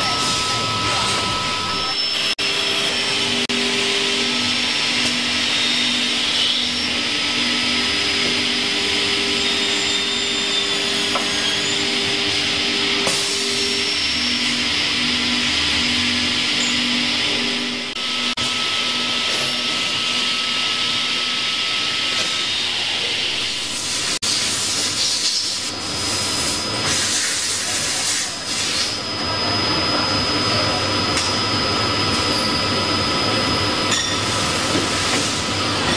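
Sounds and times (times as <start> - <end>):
high thin machine whine: 0.0 - 35.9.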